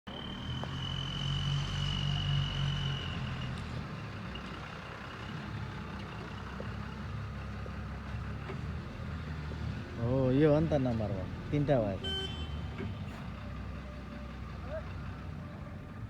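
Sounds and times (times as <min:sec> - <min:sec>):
diesel engine running under load: 0:00.1 - 0:16.0.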